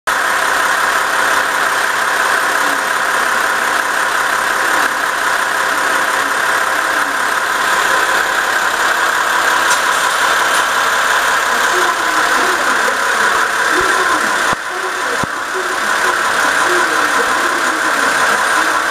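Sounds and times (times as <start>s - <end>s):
diesel railcar engine idling: 0.1s - 18.9s.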